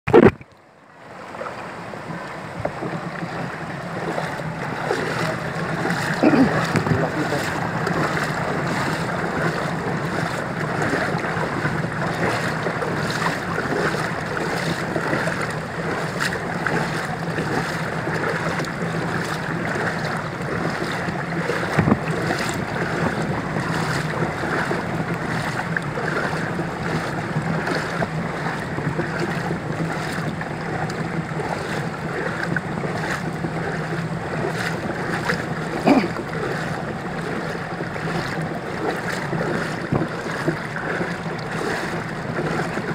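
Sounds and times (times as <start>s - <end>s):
floodwater sloshing and splashing: 0.1s - 42.9s
steady low hum: 0.1s - 42.9s.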